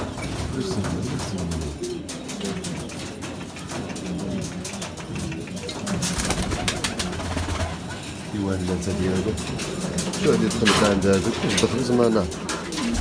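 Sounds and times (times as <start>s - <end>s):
wings flapping: 0.0s - 8.2s, 8.9s - 13.0s
pigeons cooing: 0.0s - 13.0s.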